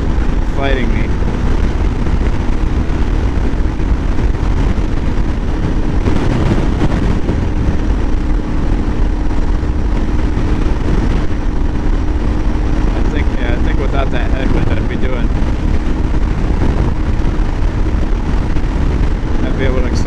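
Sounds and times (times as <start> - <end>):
motorcycle engine droning: 0.0 - 20.0
wind rushing over microphone: 0.0 - 20.0.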